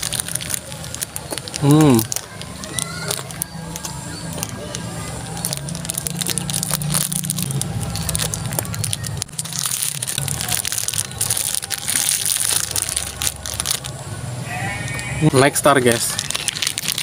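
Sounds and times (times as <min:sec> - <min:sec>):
crunchy chewing: 0:00.0 - 0:15.2, 0:16.0 - 0:17.0
plastic wrapper crinkling: 0:00.0 - 0:17.0.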